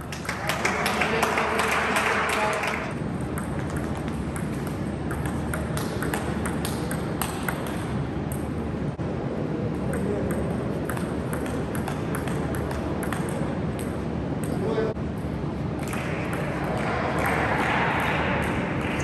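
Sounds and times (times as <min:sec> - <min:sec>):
low hall hum: 0:00.0 - 0:19.0.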